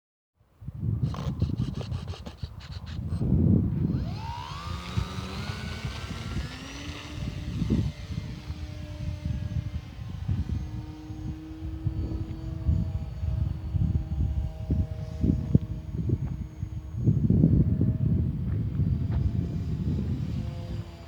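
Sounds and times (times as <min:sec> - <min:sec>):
wind buffeting microphone: 0:00.6 - 0:21.0
model airplane motor whining: 0:00.8 - 0:21.0.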